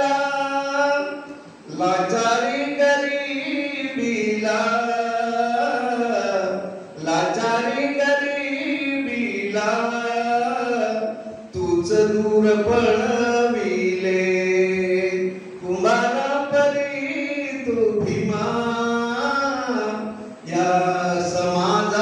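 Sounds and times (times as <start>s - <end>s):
man singing into microphone: 0.0s - 22.0s.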